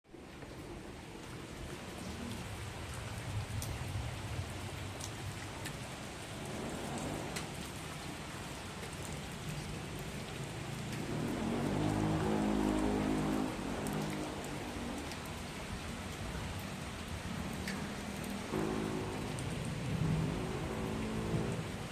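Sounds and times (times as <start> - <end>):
heavy rain falling: 0.1 - 21.9
raindrops ticking: 0.1 - 21.9.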